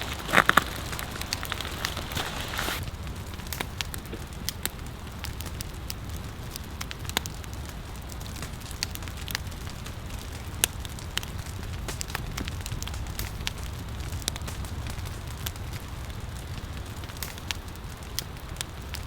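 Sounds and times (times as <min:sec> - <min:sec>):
firewood crackling and popping: 0:00.0 - 0:19.0
low steady rumble: 0:00.0 - 0:19.0.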